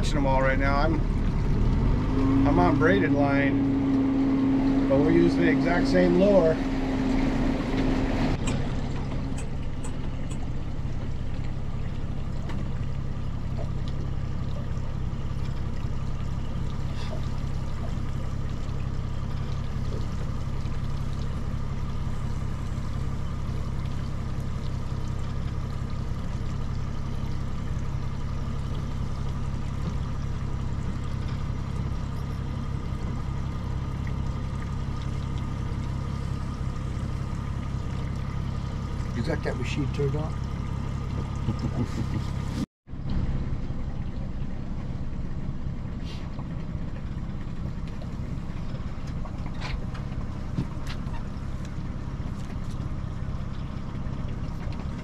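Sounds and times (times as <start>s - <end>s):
outboard motor humming: 0.0s - 55.0s
water washing along hull: 0.0s - 55.0s.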